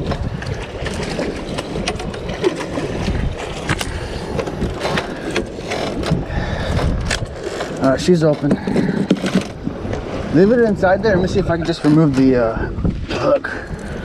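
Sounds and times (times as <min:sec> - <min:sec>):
knocks and clatters on a boat: 0:00.0 - 0:14.0.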